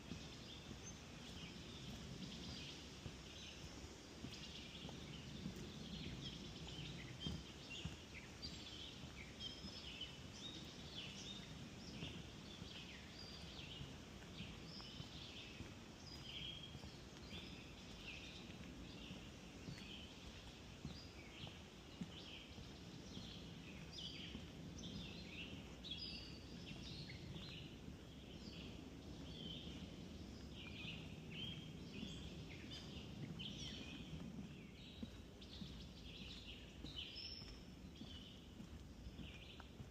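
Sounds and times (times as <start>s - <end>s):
birds singing and chirping: 0.1s - 39.8s.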